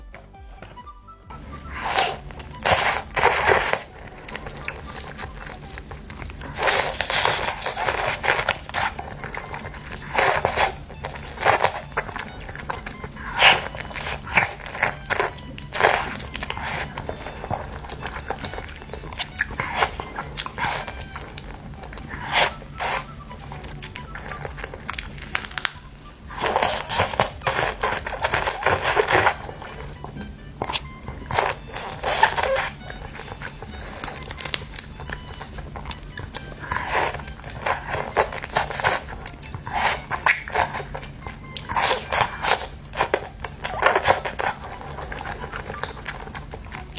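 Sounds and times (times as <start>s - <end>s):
background music: 0.0s - 46.9s
crunchy bites and chewing: 0.0s - 46.9s.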